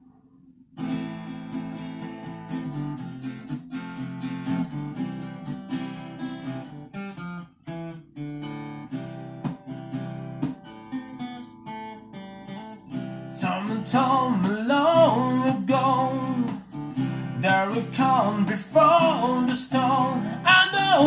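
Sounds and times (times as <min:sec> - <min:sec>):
acoustic guitar strumming: 0:00.8 - 0:21.0.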